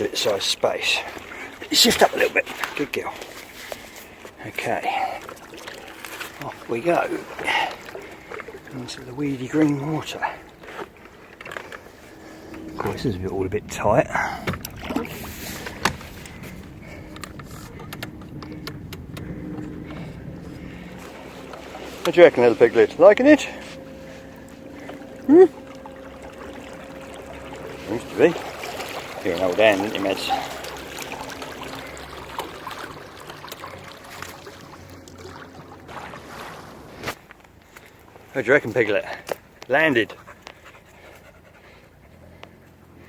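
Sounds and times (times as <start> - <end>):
water washing against hull: 0.0 - 40.0
boat motor hum: 0.0 - 43.0.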